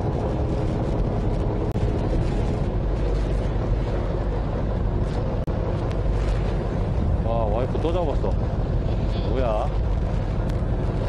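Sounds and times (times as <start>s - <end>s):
boat engine humming: 0.0s - 11.0s
choppy water washing: 0.0s - 11.0s
wind on microphone: 0.0s - 11.0s.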